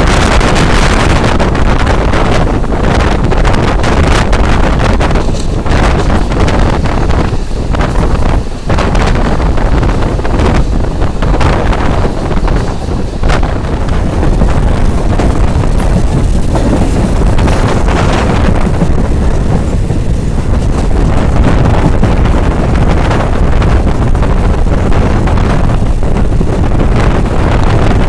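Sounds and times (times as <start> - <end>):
train running rumble: 0.0 - 28.0
wind buffeting microphone: 0.0 - 28.0.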